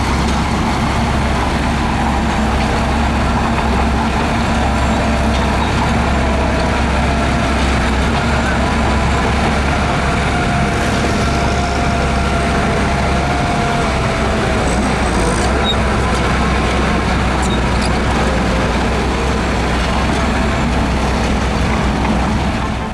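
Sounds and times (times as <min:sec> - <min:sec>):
deep diesel engine hum: 0:00.0 - 0:22.9.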